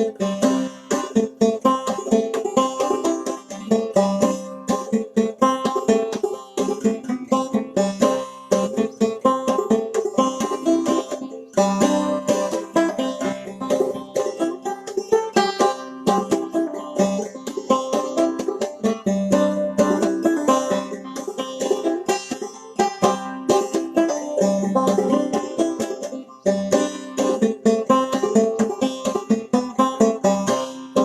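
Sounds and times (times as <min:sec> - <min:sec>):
banjo playing: 0:00.0 - 0:31.0.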